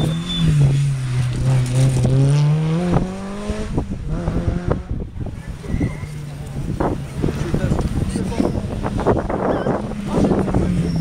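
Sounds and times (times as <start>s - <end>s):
rally car passing at speed: 0.0s - 11.0s.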